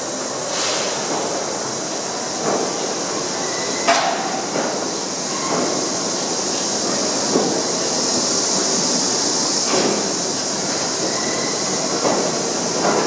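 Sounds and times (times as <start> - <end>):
subway train wheels rushing: 0.0 - 13.0.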